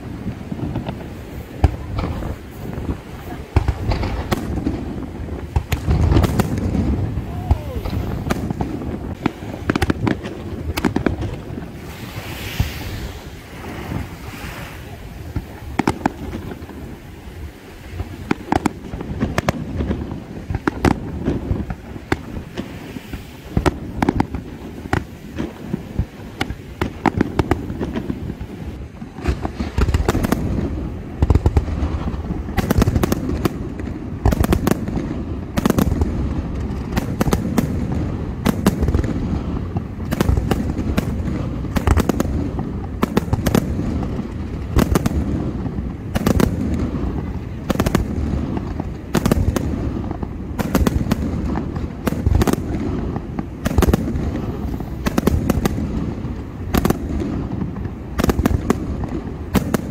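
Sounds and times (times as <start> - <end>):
fireworks cracks and booms: 0.0 - 59.9.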